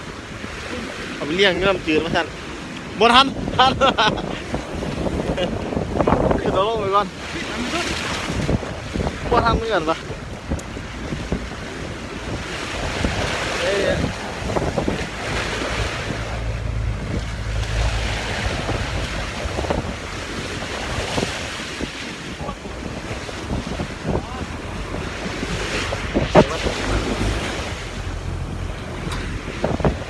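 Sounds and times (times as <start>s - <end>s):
sea waves washing: 0.0s - 30.0s
wind buffeting microphone: 0.0s - 30.0s.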